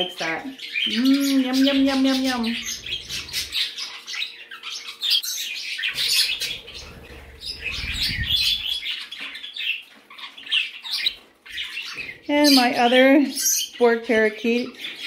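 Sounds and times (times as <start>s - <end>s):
parrots chirping and squawking: 0.0s - 15.0s.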